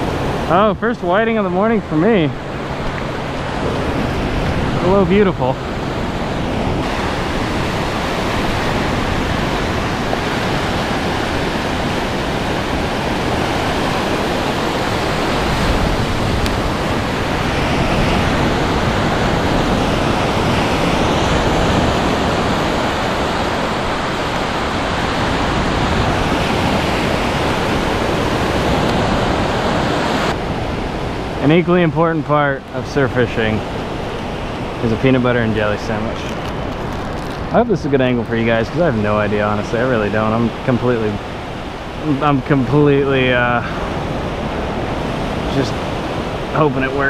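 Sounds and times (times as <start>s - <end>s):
ocean waves breaking: 0.0s - 47.0s.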